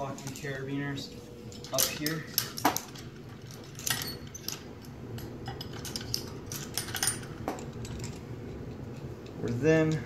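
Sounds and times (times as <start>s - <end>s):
carabiners clinking against metal: 0.0s - 8.3s.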